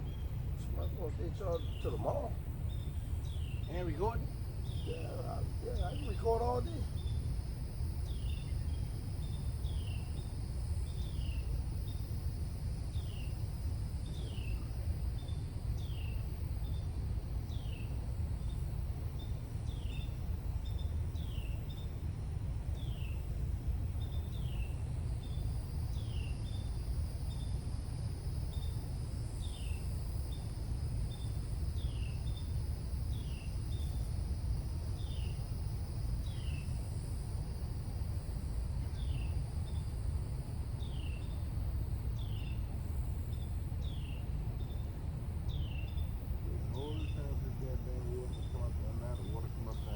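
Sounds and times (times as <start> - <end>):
high insect drone: 0.0 - 49.9
steady low rumble: 0.0 - 49.9.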